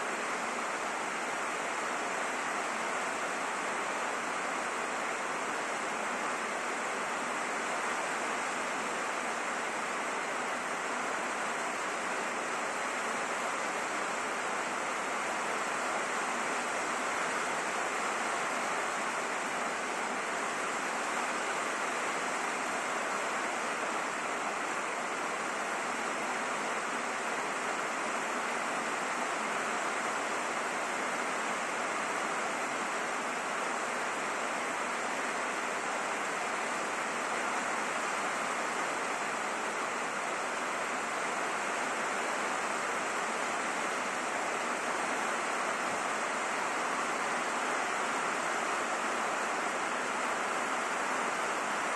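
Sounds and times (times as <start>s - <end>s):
rain on a roof: 0.0s - 51.9s.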